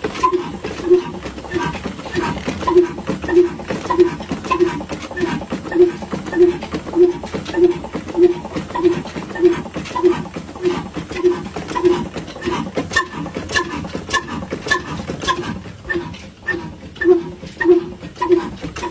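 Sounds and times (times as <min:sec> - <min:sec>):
engine clicking and ticking: 0:00.0 - 0:18.9
old engine exhaust beat: 0:00.0 - 0:18.9.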